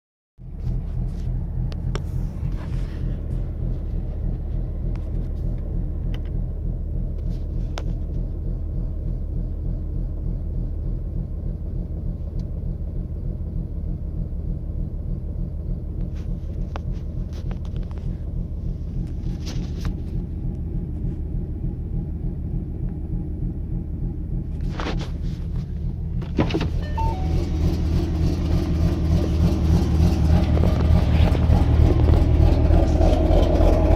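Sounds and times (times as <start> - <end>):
car engine idling with loping rumble: 0.4 - 33.9.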